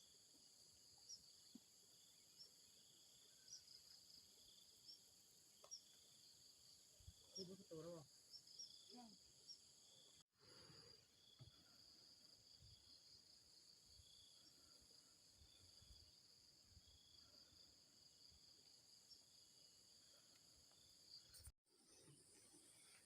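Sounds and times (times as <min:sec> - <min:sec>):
crickets chirping: 0:00.0 - 0:21.5.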